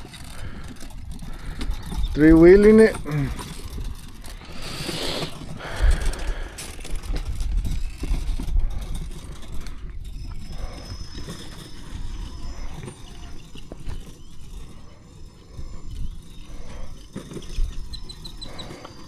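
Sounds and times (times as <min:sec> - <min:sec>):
electric motor whining: 0:00.0 - 0:19.0
toy truck rumbling over ground: 0:00.0 - 0:19.0.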